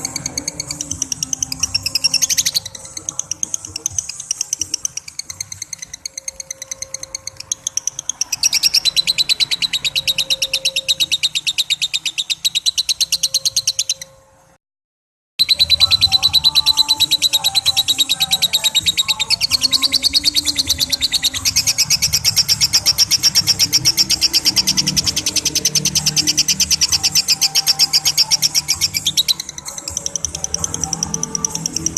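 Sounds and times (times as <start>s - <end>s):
lovebird chattering trill: 0.0s - 14.2s, 15.4s - 31.9s.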